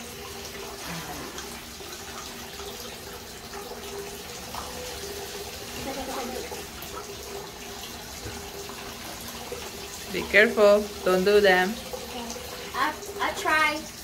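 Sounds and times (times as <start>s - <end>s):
bath tap running into tub: 0.0s - 14.0s.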